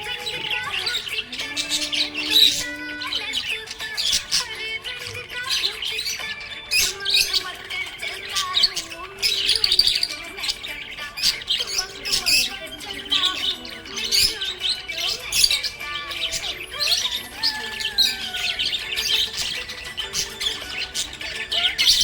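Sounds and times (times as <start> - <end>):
budgerigars chirping and squawking: 0.0 - 22.0.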